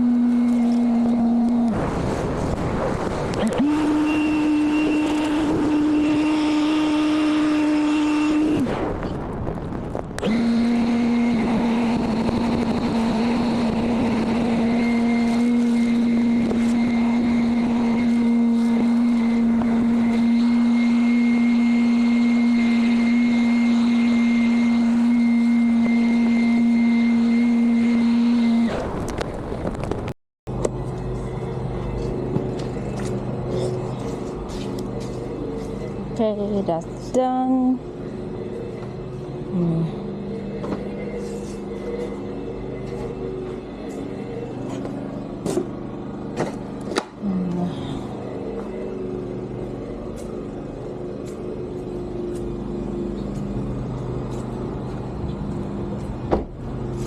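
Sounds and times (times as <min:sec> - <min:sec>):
cordless tool motor humming: 0:00.0 - 0:01.8, 0:03.2 - 0:09.1, 0:09.9 - 0:57.0.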